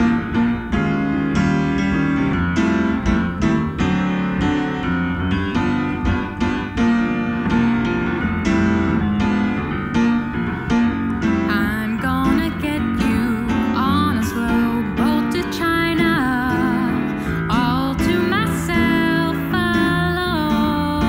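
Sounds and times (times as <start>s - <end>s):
up-tempo jazz piano: 0.0s - 21.0s.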